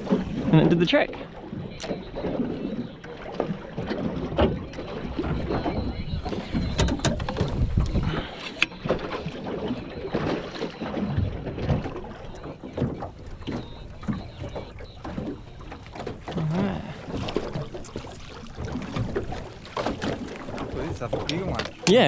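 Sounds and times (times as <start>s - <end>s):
gear knocking in boat: 0.0s - 22.0s
water lapping against boat hull: 0.0s - 22.0s.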